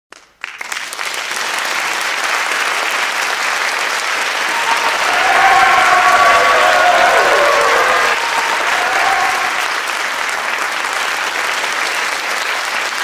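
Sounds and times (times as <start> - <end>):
audience applause: 0.4 - 13.0.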